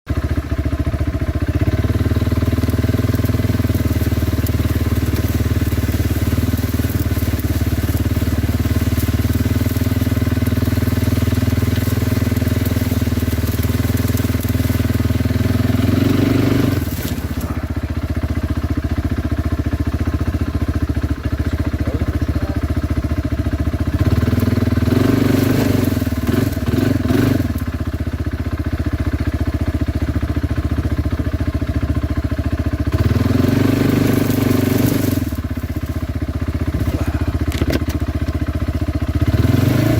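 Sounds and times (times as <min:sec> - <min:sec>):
atv engine running: 0:00.1 - 0:39.9.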